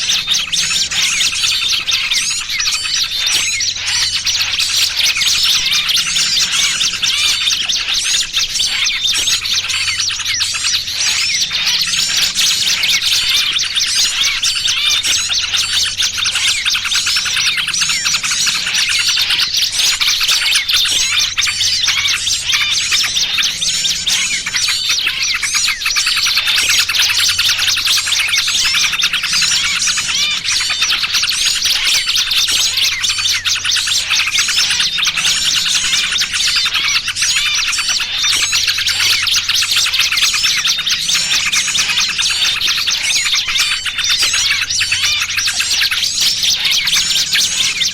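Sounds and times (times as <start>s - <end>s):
bird distress calls: 0.0s - 47.9s
small birds chirping and twittering: 0.0s - 47.9s.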